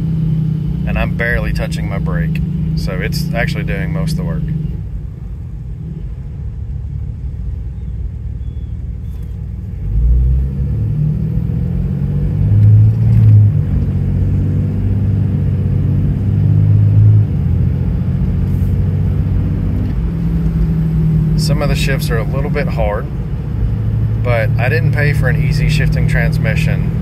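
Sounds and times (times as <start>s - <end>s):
diesel engine accelerating and shifting: 0.0s - 27.0s.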